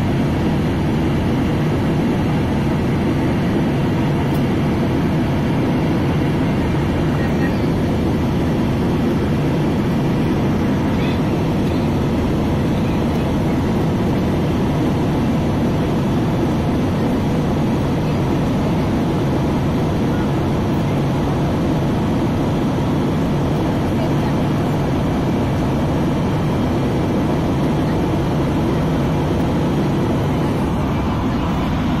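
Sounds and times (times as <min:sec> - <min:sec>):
airliner cabin noise: 0:00.0 - 0:32.0.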